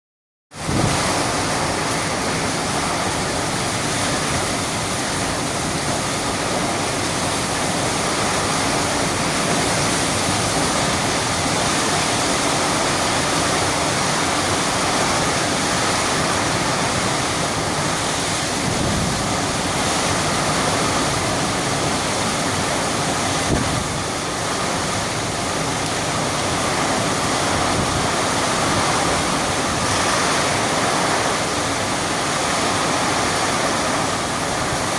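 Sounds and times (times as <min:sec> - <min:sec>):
heavy rain falling: 0:00.5 - 0:34.9.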